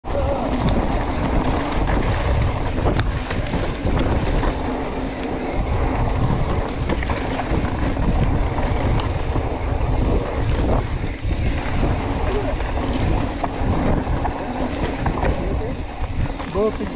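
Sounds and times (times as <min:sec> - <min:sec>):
wind buffeting microphone: 0:00.0 - 0:16.9
bike clicks and rattles: 0:00.1 - 0:16.9
tyres rumbling over dirt: 0:00.1 - 0:16.9.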